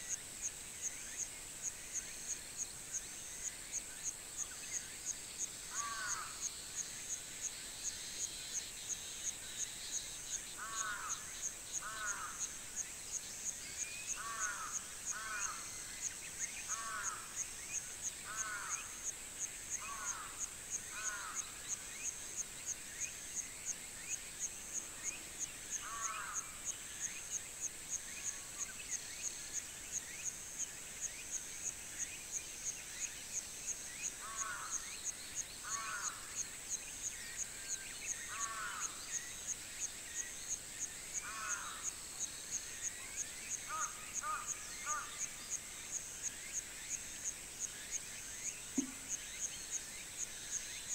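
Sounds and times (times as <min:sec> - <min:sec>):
birds twittering faintly: 0:00.0 - 0:50.9
high insect hiss: 0:00.0 - 0:50.9
insect chirping: 0:00.0 - 0:50.9.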